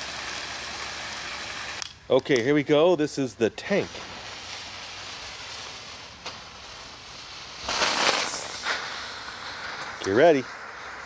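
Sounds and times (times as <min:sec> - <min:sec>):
firework fuse fizzing: 0:00.0 - 0:11.0
steady background hiss: 0:00.0 - 0:11.0.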